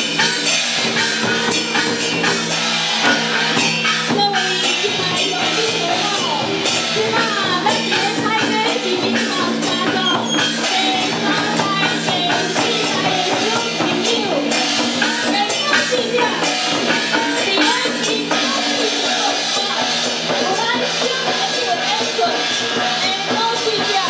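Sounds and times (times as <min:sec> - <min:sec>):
barrel drum and percussion: 0:00.0 - 0:24.0.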